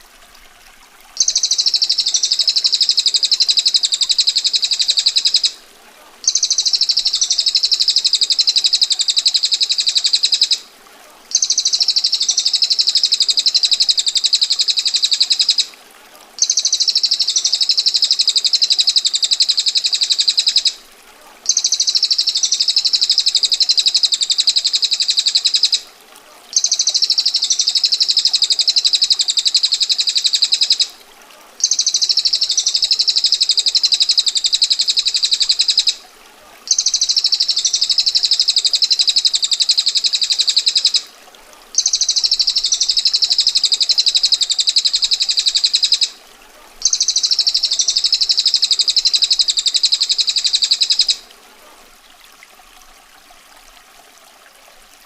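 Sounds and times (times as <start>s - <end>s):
faint running water: 0.0s - 55.0s.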